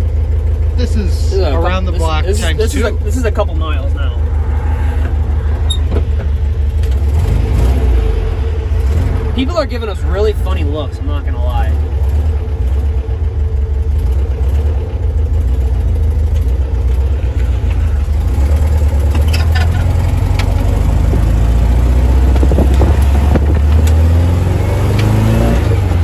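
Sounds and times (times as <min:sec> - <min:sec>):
car engine running and accelerating: 0:00.0 - 0:26.0.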